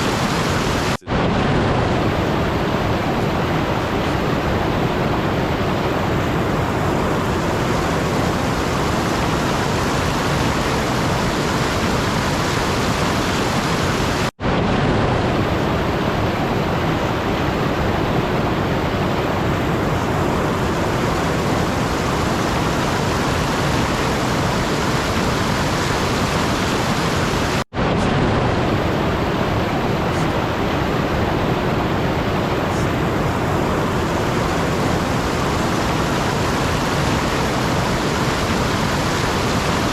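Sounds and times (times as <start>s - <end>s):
steady loud rushing noise: 0.0s - 39.9s.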